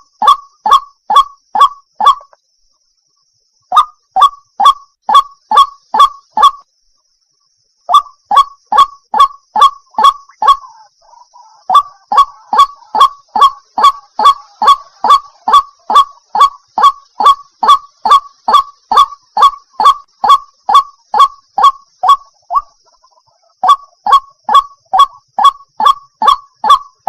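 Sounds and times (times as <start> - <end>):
waterhen calling repeated notes: 0.0 - 2.4, 3.7 - 6.7, 7.9 - 27.0.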